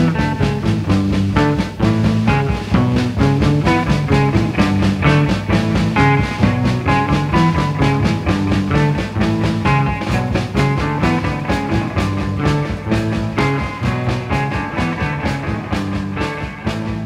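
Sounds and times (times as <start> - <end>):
heavy rock band playing: 0.0 - 17.0.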